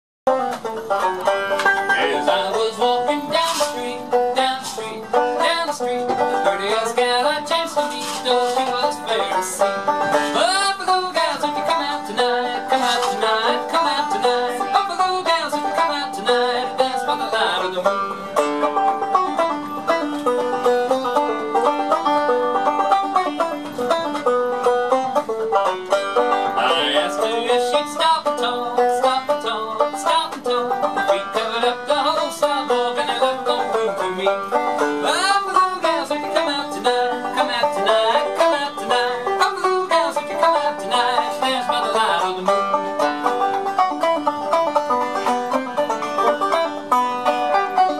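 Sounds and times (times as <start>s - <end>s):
banjo picking: 0.3s - 47.9s.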